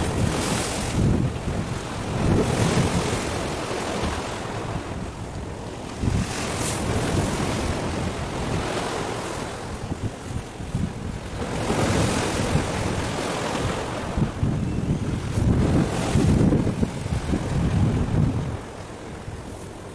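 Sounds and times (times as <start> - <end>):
sea waves: 0.0 - 19.9
wind buffeting microphone: 0.0 - 19.9.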